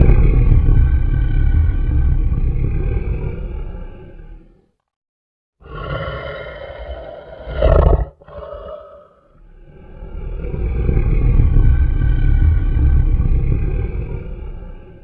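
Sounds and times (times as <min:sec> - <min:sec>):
big cat roaring: 0:00.0 - 0:04.6, 0:05.6 - 0:15.0.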